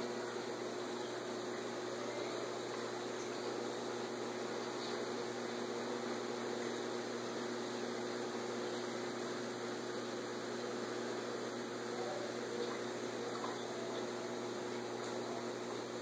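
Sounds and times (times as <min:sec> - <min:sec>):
aquarium filter humming: 0:00.0 - 0:16.0.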